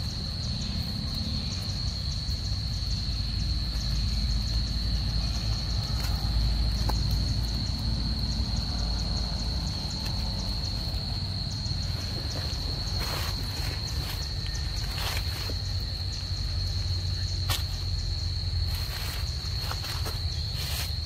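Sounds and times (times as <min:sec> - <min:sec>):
constant low rumble: 0:00.0 - 0:21.0
insects singing high tone: 0:00.0 - 0:21.0.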